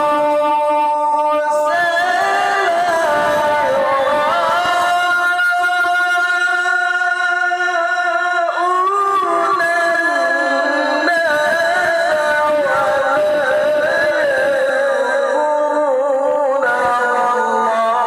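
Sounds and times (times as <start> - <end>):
man chanting over loudspeakers: 0.0 - 18.0.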